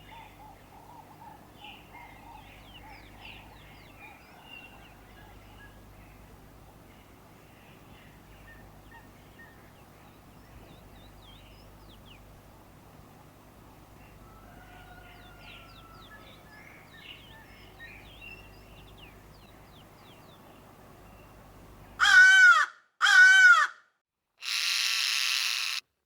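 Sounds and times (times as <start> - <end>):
small birds chirping: 0.0 - 12.4, 13.2 - 22.0.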